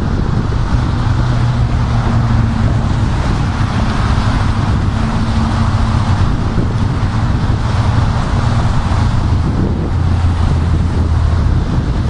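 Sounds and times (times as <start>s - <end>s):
low engine drone: 0.0s - 12.0s
wind on microphone: 0.0s - 12.0s.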